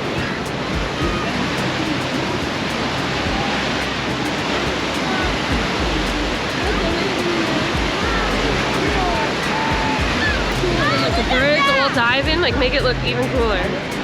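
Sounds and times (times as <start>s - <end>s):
waterfall roaring: 0.0s - 14.0s
wind gusting on microphone: 0.0s - 14.0s.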